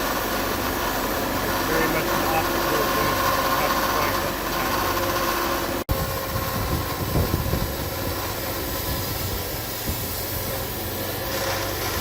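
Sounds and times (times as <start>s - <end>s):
band sawmill running: 0.0s - 12.0s.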